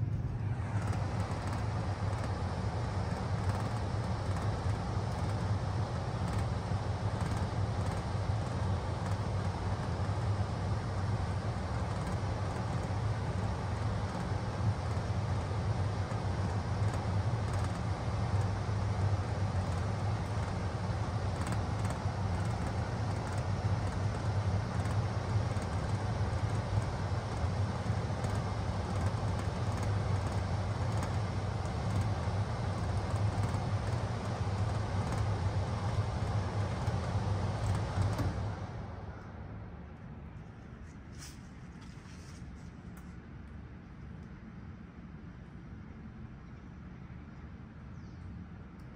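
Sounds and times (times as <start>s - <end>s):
heat pump fan air rushing: 0.0s - 48.9s
steady low hum: 0.0s - 48.9s.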